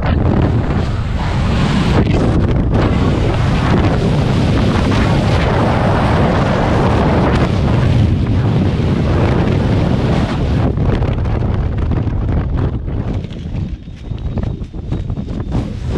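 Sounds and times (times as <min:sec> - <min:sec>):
wind rushing over microphone: 0:00.0 - 0:15.9.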